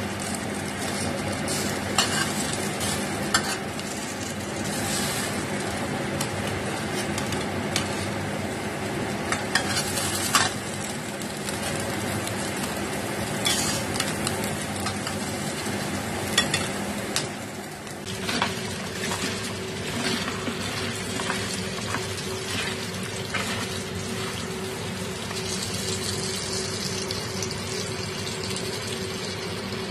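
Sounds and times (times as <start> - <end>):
food sizzling in oil: 0.0 - 29.9.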